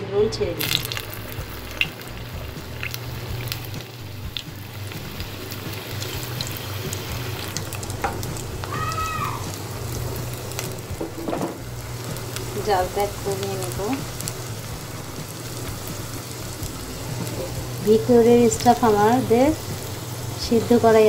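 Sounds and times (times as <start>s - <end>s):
spring rolls deep-frying in oil: 0.2s - 21.0s.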